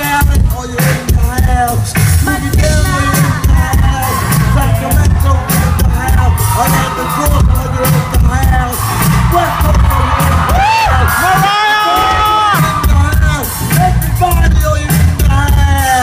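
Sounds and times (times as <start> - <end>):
live pop music with bass beat: 0.0 - 16.0
person singing: 0.0 - 16.0.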